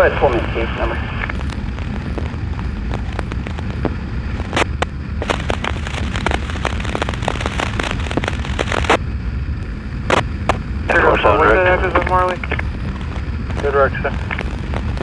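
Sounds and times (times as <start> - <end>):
wind rumble: 0.0 - 15.0
crackling clicks: 0.1 - 9.0, 9.6 - 15.0.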